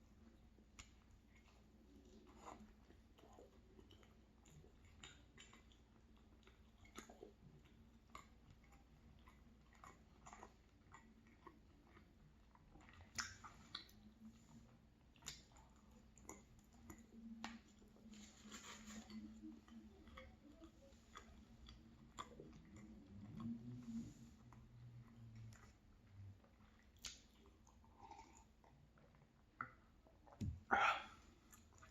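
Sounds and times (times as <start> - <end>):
chewing with mouth clicks: 0.1 - 31.9.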